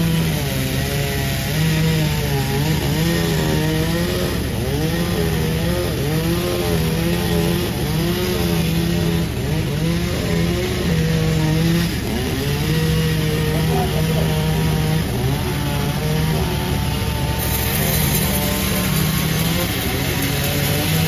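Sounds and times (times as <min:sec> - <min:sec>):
chainsaw sawing wood: 0:00.0 - 0:21.0.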